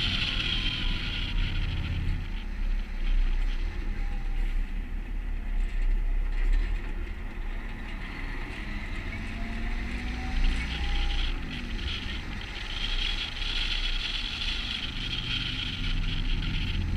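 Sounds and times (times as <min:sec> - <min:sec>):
truck engine drone: 0:00.0 - 0:16.9
tyre and road noise: 0:00.0 - 0:16.9.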